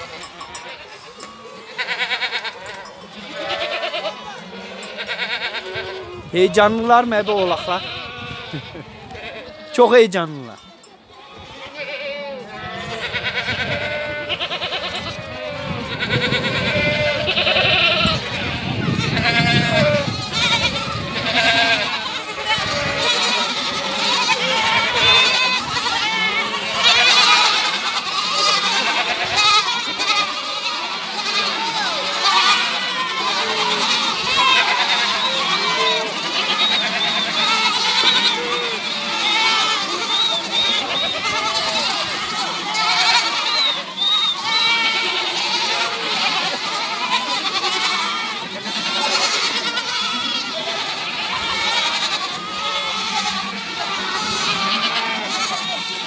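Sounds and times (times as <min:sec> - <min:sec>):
herd of goats bleating: 0:00.0 - 0:56.0.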